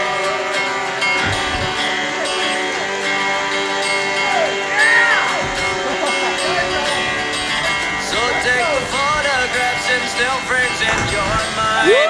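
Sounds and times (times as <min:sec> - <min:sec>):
acoustic guitar strumming: 0:00.0 - 0:12.0
person singing: 0:00.0 - 0:12.0.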